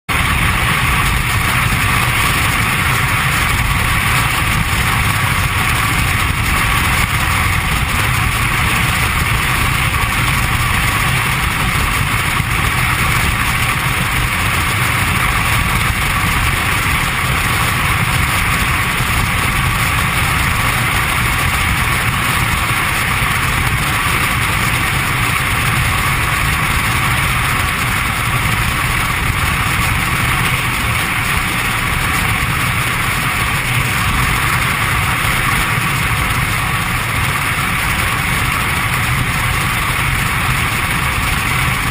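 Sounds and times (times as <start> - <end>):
vehicle engine and road noise: 0.1 - 41.9.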